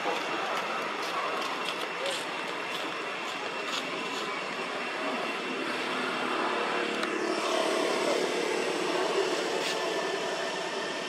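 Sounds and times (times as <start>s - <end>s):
faint distant vehicle engine hum: 0.0s - 11.0s.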